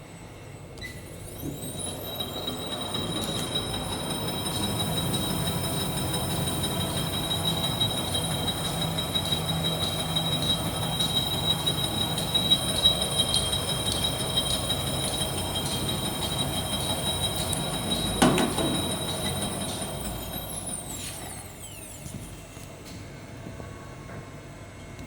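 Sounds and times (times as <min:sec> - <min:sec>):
high steady whines: 0:00.0 - 0:25.0
machine hum: 0:01.3 - 0:22.7.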